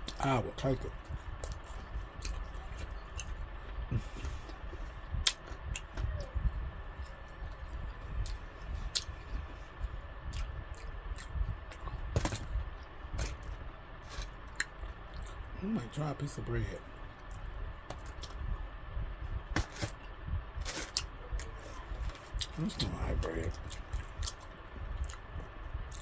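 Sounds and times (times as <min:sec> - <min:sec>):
chewing food: 0:00.0 - 0:15.6, 0:17.2 - 0:18.6, 0:20.8 - 0:26.0
low steady rumble: 0:00.0 - 0:26.0.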